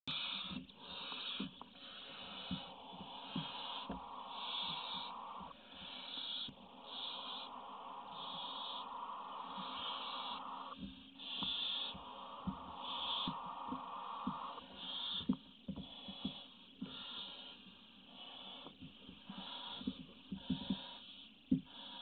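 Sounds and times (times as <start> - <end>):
knocks and scratches on nest floor: 0.1 - 17.6, 18.2 - 22.0
owl chicks hissing begging calls: 0.1 - 22.0.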